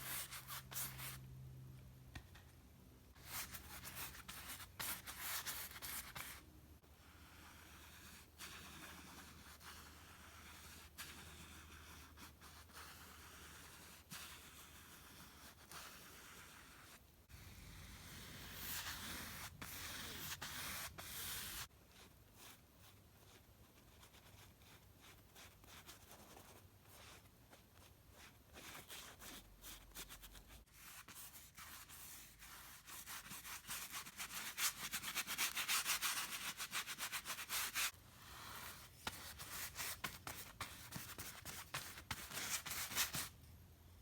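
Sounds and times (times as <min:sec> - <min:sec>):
paintbrush stroking over canvas: 0:07.0 - 0:43.3.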